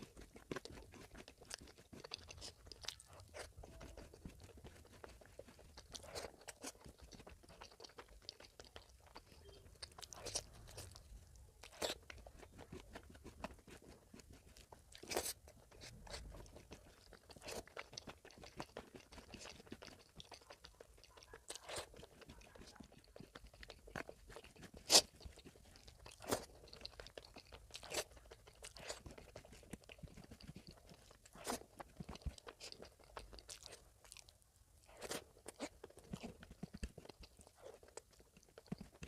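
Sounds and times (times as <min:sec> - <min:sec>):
chewing crunches: 0:00.0 - 0:39.0
wet chewing mouth clicks: 0:00.0 - 0:39.0.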